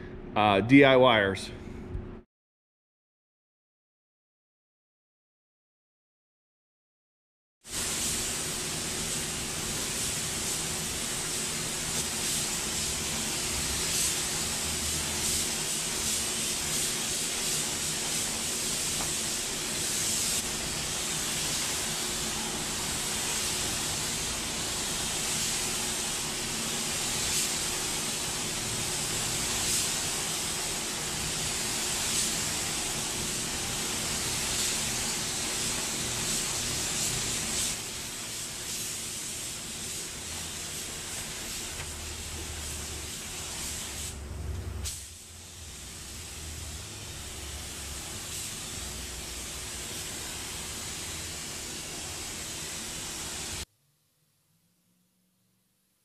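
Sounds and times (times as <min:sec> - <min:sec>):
spray gun hissing: 0:07.7 - 0:44.2, 0:44.8 - 0:53.7.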